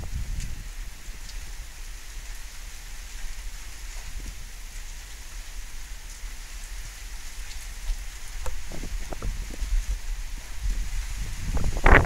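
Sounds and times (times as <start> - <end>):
steady rain falling: 0.0 - 12.0
faint water drips: 0.3 - 11.0.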